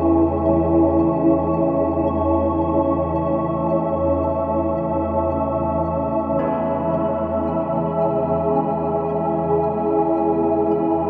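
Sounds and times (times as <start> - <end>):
music of sustained chords: 0.0 - 11.0.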